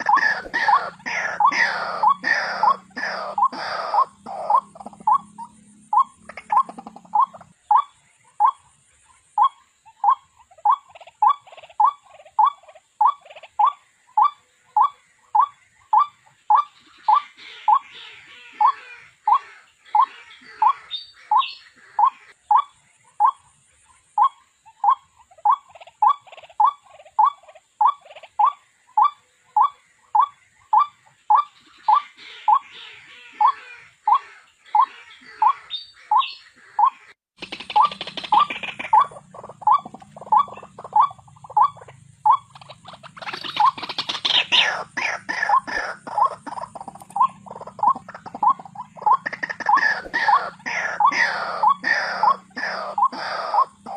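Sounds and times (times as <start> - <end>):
waterhen calling: 0.0 - 53.9.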